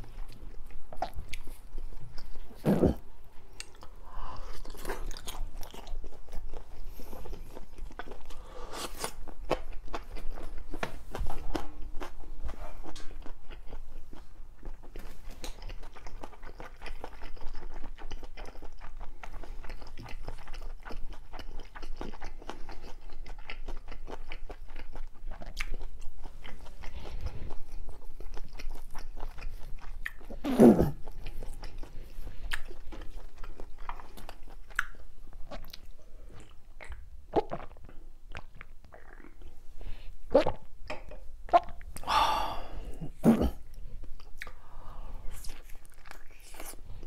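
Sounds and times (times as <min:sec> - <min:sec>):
close chewing of food: 0:00.0 - 0:47.0.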